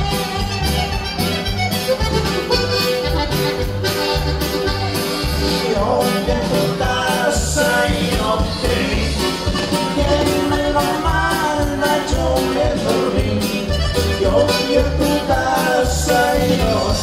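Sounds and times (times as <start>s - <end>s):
latin dance band with accordion: 0.0s - 17.0s
steady bass beat: 0.0s - 17.0s.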